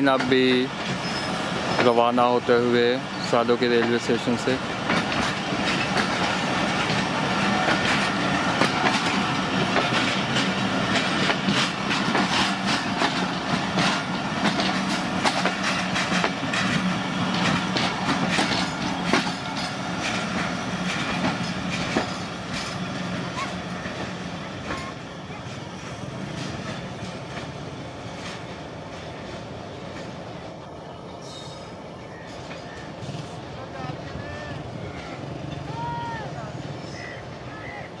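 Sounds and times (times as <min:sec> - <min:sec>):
train wheels clattering over rail joints: 0:00.0 - 0:30.5.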